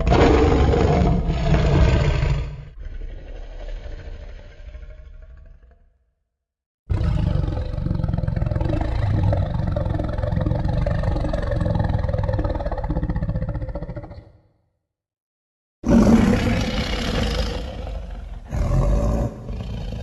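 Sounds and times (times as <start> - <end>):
monster roar: 0.0 - 5.8, 6.9 - 14.2, 15.8 - 20.0.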